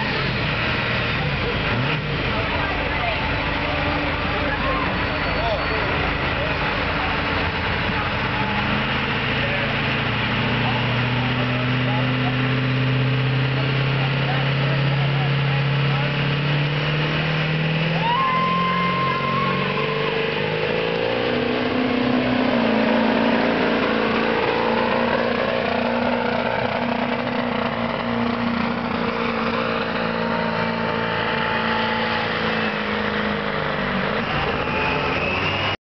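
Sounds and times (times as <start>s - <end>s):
diesel engine under heavy load: 0.0s - 35.8s.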